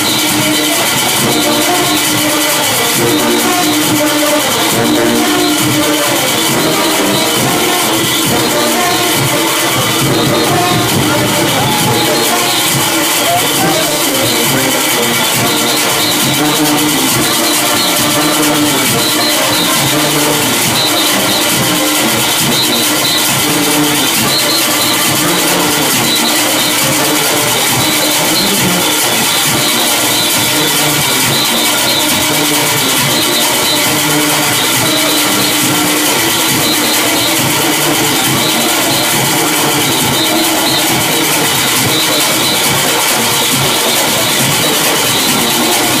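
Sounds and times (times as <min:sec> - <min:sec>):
cowbells: 0:00.0 - 0:46.0
drums: 0:00.0 - 0:46.0
horns: 0:00.0 - 0:46.0
whistles: 0:00.0 - 0:46.0.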